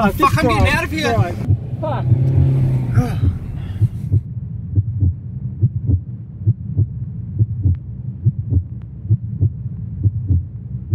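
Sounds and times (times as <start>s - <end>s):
heartbeat double thump: 1.4s - 10.5s
low steady drone: 1.4s - 10.9s.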